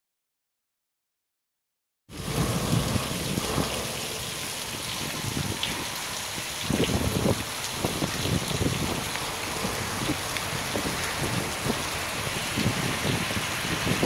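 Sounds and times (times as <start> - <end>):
low rumbles: 2.1 - 14.0
steady rain: 2.1 - 14.0.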